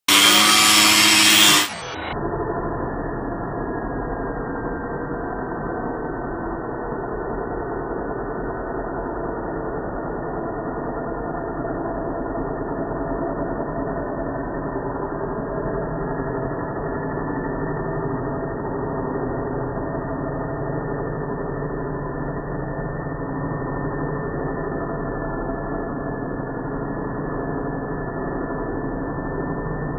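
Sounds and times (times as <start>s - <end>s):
slowed angle grinder drone: 0.0s - 29.9s.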